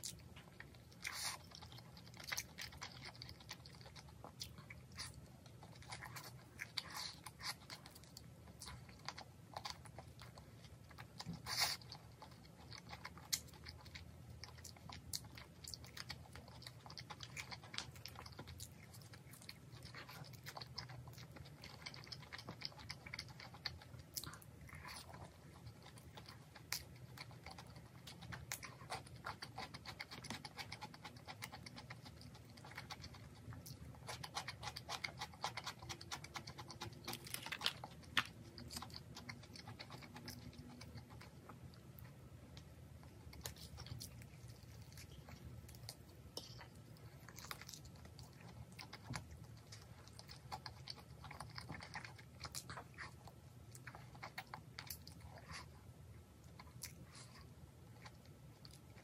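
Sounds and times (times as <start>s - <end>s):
person chewing crispy food: 0.0s - 59.0s.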